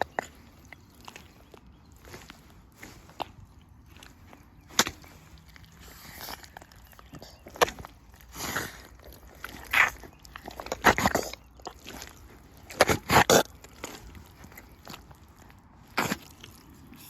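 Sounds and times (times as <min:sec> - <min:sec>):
rubber boots squelching in mud: 0:00.0 - 0:17.0.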